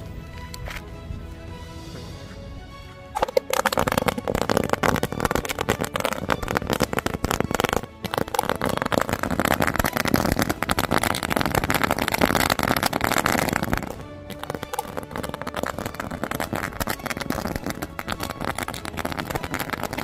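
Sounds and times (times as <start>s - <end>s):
firecrackers crackling bangs: 3.2s - 20.0s.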